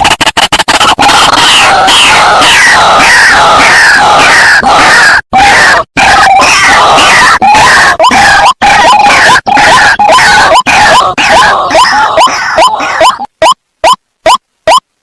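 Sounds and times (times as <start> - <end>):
waterhens croaking calls: 0.0 - 14.8.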